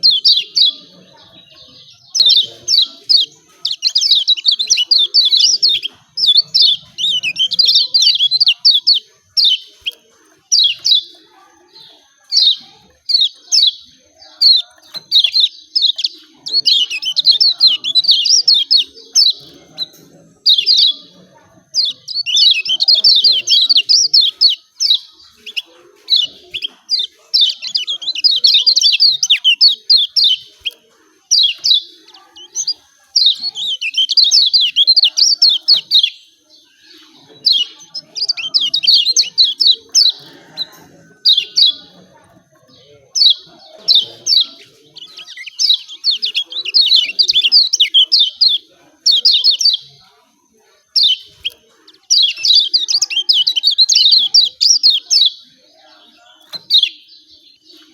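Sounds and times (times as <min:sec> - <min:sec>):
bird rapid chirping song: 0:00.0 - 0:57.9.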